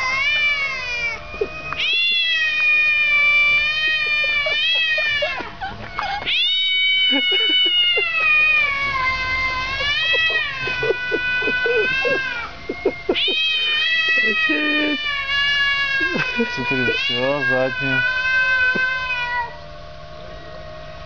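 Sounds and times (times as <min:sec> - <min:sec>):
cat yowling: 0:00.0 - 0:19.7.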